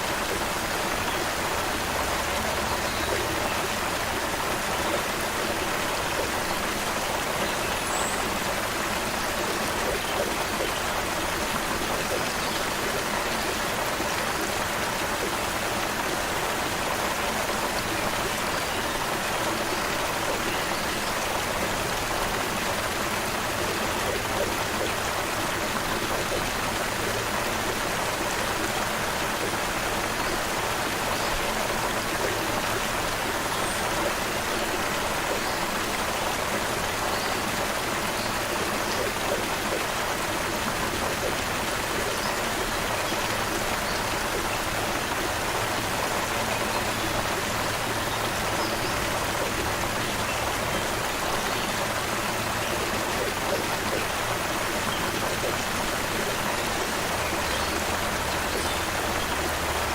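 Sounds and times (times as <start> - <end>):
creek water running over stones: 0.0 - 59.9.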